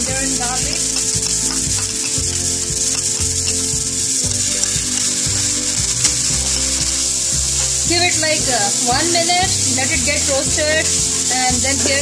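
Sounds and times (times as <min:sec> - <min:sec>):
background music: 0:00.0 - 0:12.0
hot oil sizzling in a frying pan: 0:00.0 - 0:12.0.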